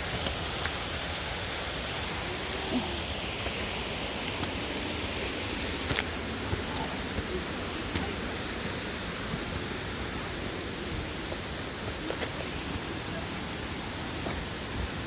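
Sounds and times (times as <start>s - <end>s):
mountain stream water rushing: 0.0s - 15.0s.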